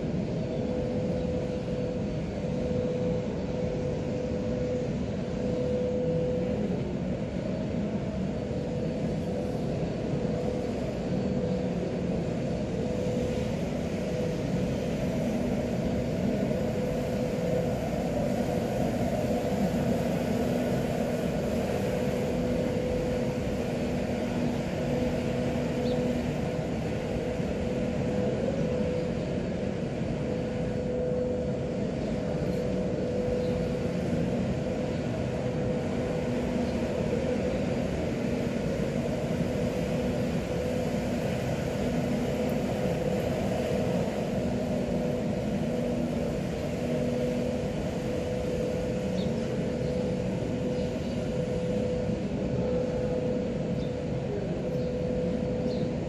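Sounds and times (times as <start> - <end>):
steady mechanical drone: 0.0 - 56.0.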